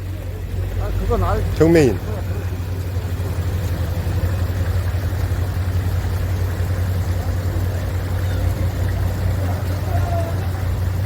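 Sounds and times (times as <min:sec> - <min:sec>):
idling engine hum: 0:00.0 - 0:11.0.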